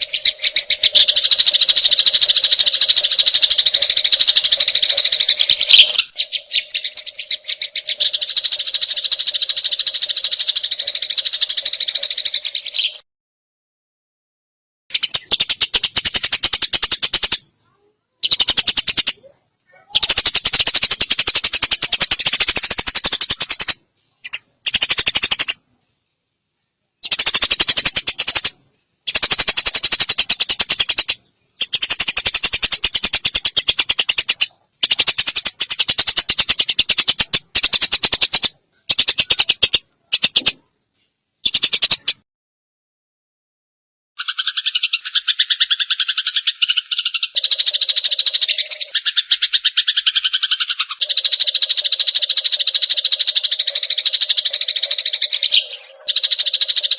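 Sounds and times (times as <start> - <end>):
sparrows chattering rattle: 0.0 - 13.0, 14.9 - 17.5, 18.2 - 25.6, 27.0 - 40.6, 41.4 - 42.2, 44.2 - 56.9.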